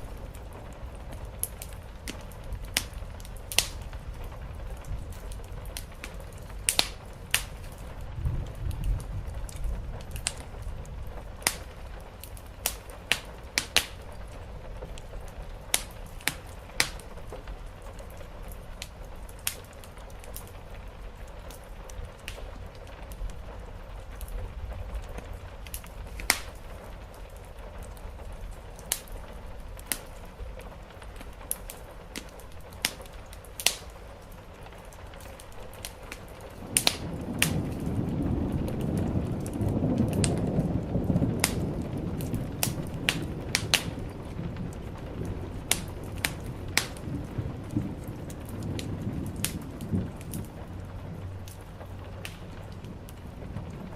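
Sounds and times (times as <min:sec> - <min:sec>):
fireplace fire crackling and popping: 0:00.0 - 0:53.9
low rumble of thunder: 0:00.0 - 0:53.9
soft rain hiss: 0:00.0 - 0:53.9.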